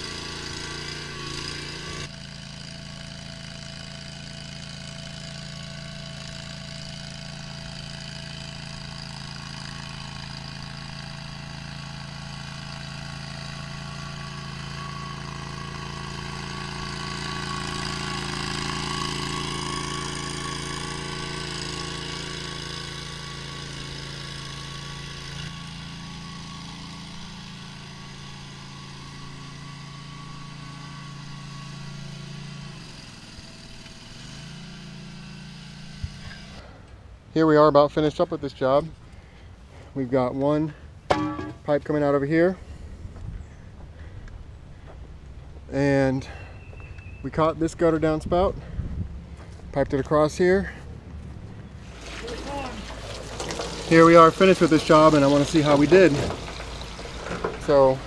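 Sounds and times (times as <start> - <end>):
trencher engine running: 0.0 - 37.1, 38.7 - 43.2, 43.9 - 58.0.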